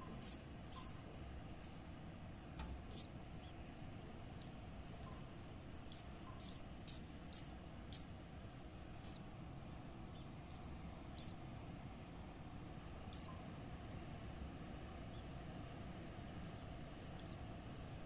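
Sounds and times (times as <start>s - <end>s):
small birds chirping: 0.0s - 14.0s, 14.8s - 18.0s
low steady rumble: 0.0s - 18.0s.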